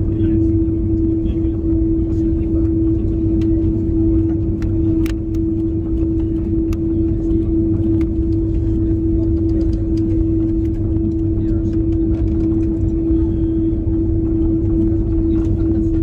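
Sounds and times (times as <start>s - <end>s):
jet engines rumbling: 0.0s - 16.0s
steady cabin hum: 0.0s - 16.0s.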